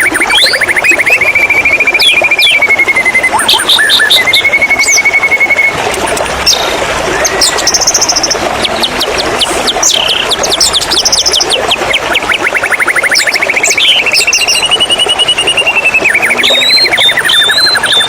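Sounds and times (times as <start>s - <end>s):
bird singing varied song: 0.0s - 5.7s, 6.5s - 18.0s
running water hiss: 0.0s - 18.0s.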